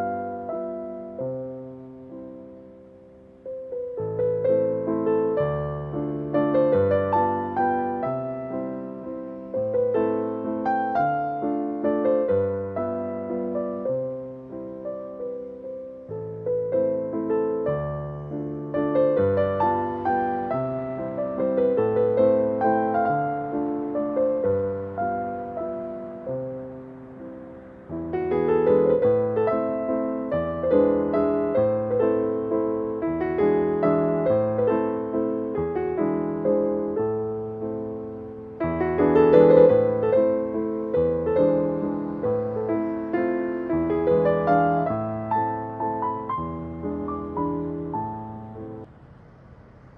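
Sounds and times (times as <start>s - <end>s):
slow gentle piano music: 0.0s - 49.0s.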